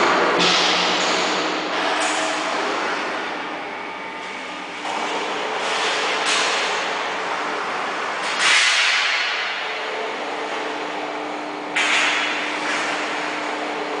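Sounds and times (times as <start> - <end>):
mixer unit mechanical noise: 0.0 - 14.0.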